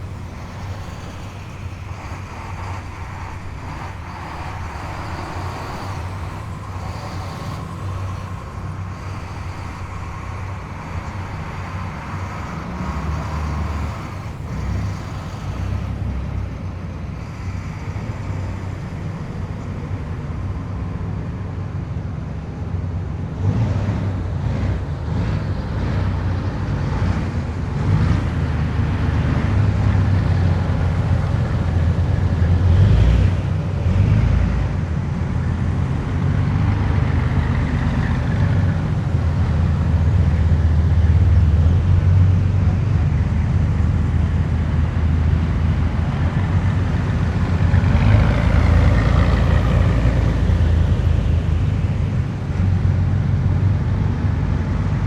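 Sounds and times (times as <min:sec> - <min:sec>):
military vehicles driving past: 0:00.0 - 0:55.0.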